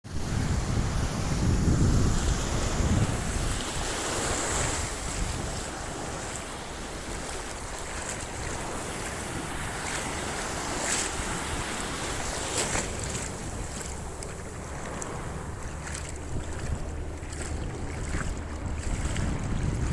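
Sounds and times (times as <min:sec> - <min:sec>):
sea surf washing ashore: 0:00.0 - 0:19.9
wind buffeting microphone: 0:00.0 - 0:19.9.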